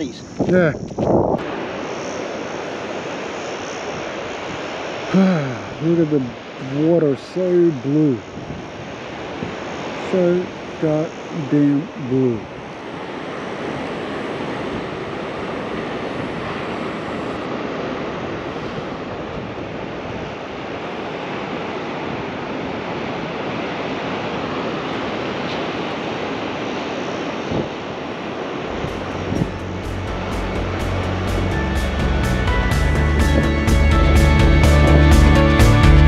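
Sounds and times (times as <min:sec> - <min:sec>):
wind on microphone: 0:00.0 - 0:34.6
ocean surf breaking on sand: 0:01.4 - 0:36.0.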